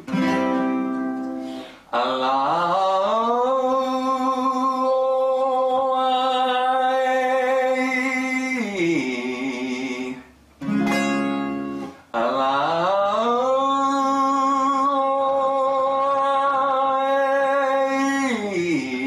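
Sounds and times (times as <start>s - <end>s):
acoustic guitar: 0.0s - 19.0s
man singing vocal exercise: 1.9s - 10.4s, 12.1s - 19.0s.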